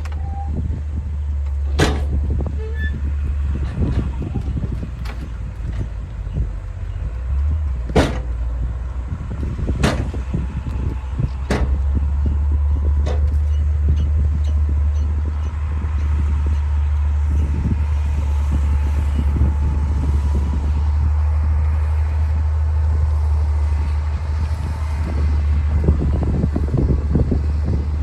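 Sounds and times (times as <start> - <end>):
bulldozer diesel engine rumbling: 0.0 - 28.0.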